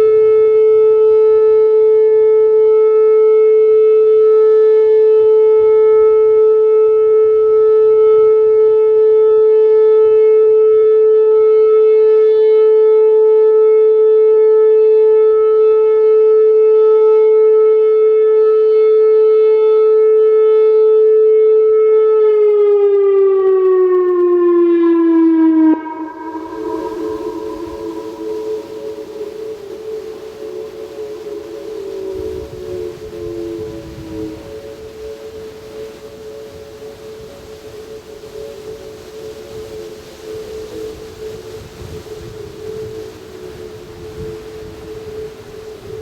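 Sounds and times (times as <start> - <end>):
electronic warning siren: 0.0 - 46.0.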